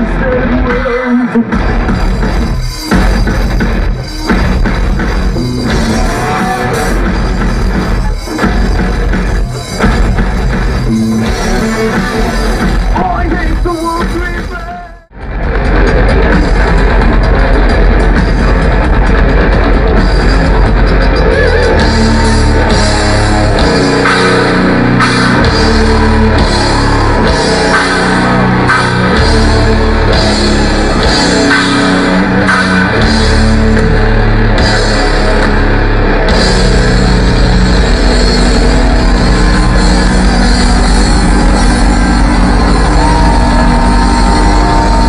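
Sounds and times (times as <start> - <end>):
bass guitar: 0.0 - 45.0
distorted electric guitar: 0.0 - 45.0
drum kit: 0.0 - 45.0.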